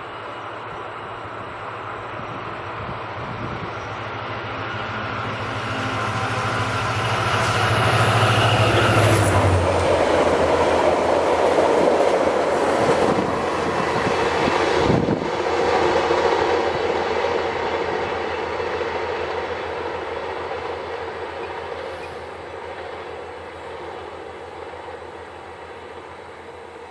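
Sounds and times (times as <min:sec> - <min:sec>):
diesel locomotive engine: 0:00.0 - 0:26.9
train wheels on rails: 0:00.0 - 0:26.9.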